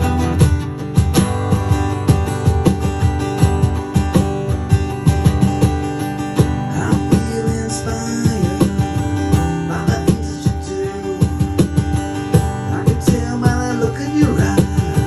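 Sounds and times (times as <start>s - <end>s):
electric guitar playing: 0.0s - 15.0s
steady drum beat: 0.0s - 15.0s.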